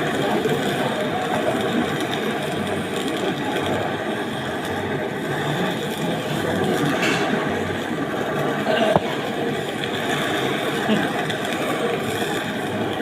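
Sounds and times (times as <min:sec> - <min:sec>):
mechanical running noise with hum: 0:00.0 - 0:13.0.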